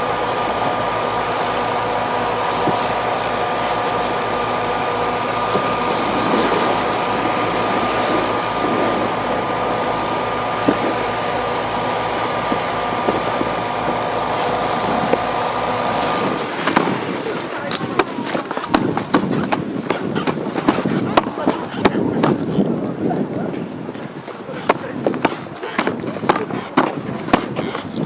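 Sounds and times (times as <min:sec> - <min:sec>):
mechanical drone: 0:00.0 - 0:24.0.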